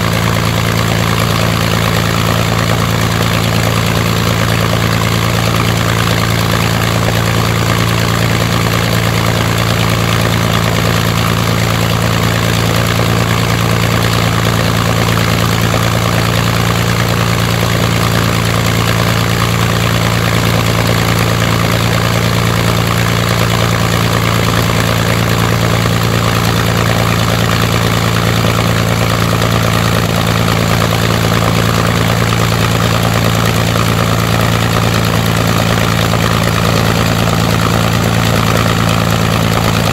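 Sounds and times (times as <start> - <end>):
aero engine droning: 0.0 - 39.9.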